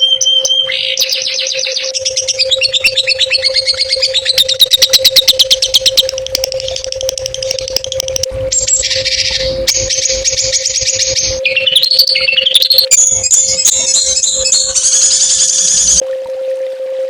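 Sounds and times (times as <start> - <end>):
songbird chirping: 0.0 - 16.0
steady hum: 0.0 - 17.0.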